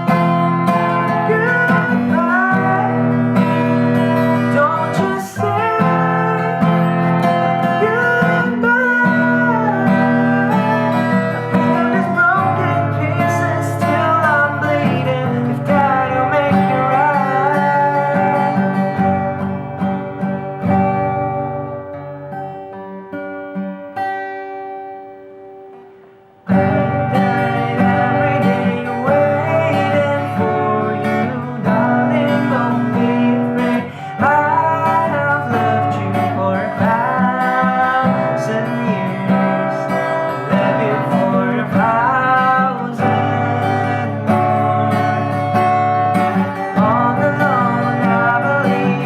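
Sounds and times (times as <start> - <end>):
person singing: 0.0 - 19.4, 26.5 - 49.0
acoustic guitar strumming: 0.0 - 49.0.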